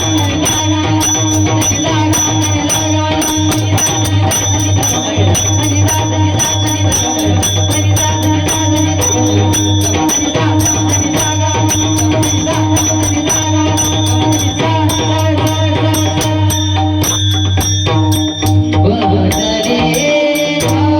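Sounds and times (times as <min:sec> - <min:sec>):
hand cymbals struck in rhythm: 0:00.0 - 0:20.9
sustained held tones: 0:00.0 - 0:20.9.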